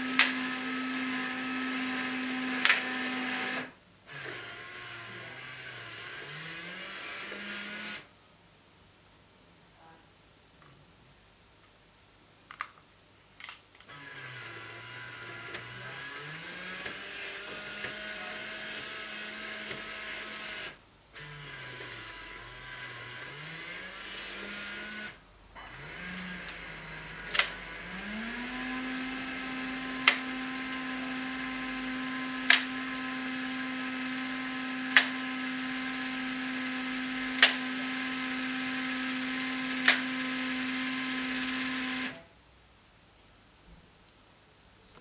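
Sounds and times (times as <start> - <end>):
electric blind motor humming: 0.0 - 8.1, 13.8 - 42.2.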